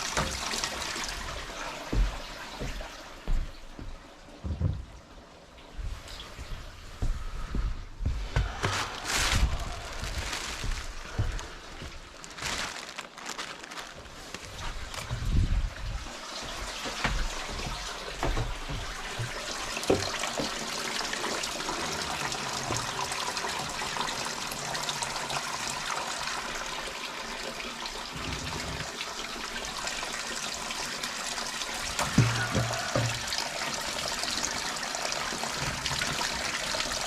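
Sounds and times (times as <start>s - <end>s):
spring water running and splashing: 0.0s - 3.5s, 8.4s - 37.0s.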